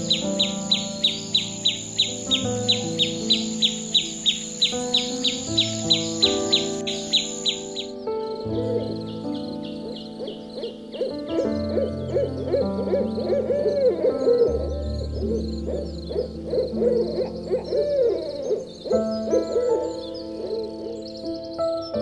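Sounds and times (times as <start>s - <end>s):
low background music: 0.0s - 22.0s.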